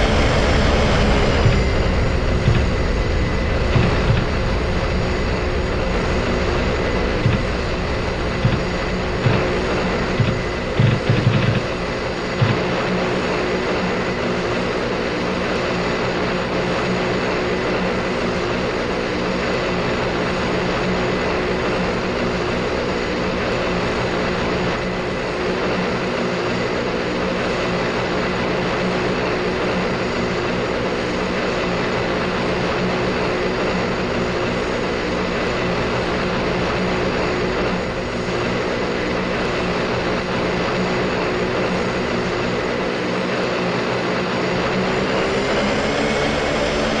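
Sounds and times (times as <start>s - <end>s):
airplane engines droning: 0.0s - 47.0s.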